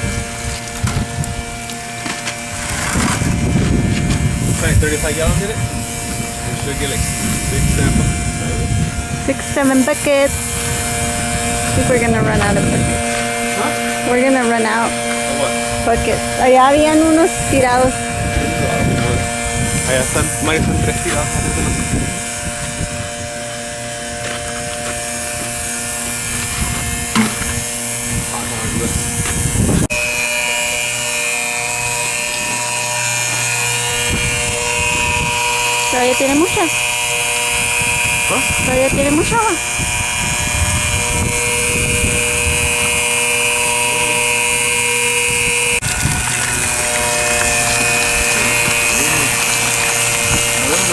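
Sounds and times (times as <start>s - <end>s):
electric water pump humming: 0.0s - 50.9s.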